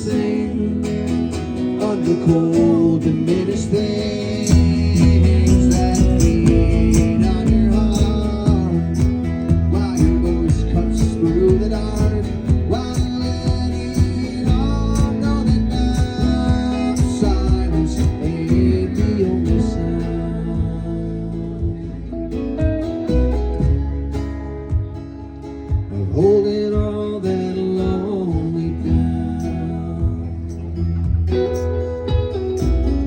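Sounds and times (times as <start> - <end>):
guitar: 0.0 - 33.0
live band playing: 0.0 - 33.0.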